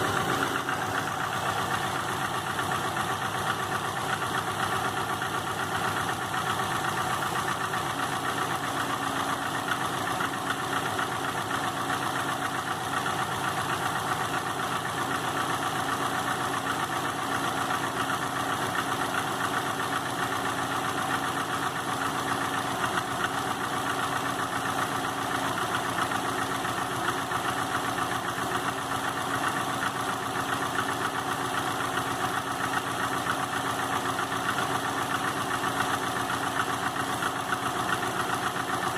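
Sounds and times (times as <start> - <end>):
car engine idling with knock: 0.0 - 38.9.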